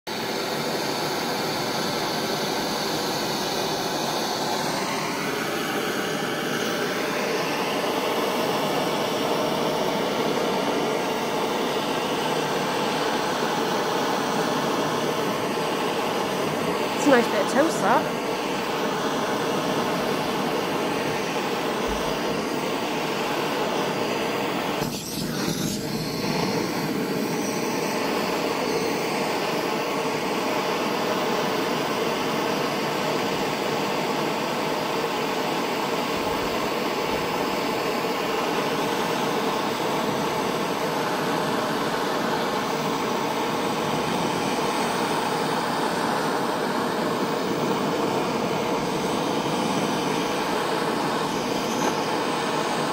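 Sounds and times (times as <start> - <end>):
propane torch flame hissing: 0.1 - 52.9.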